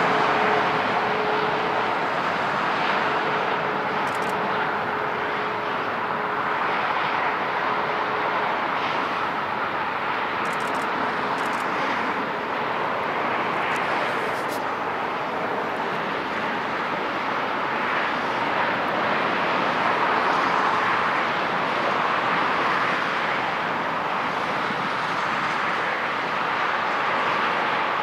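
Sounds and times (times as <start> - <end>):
distant jet engine rush: 0.0 - 28.0.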